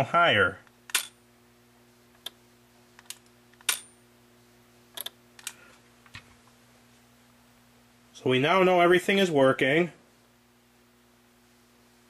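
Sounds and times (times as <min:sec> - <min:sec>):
low mains hum: 0:00.0 - 0:12.0.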